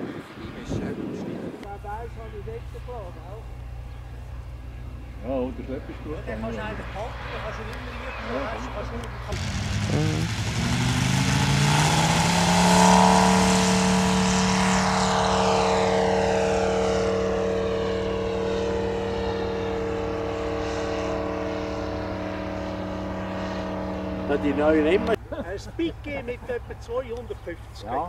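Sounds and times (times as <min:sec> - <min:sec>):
model airplane engine droning: 0:00.1 - 0:25.2.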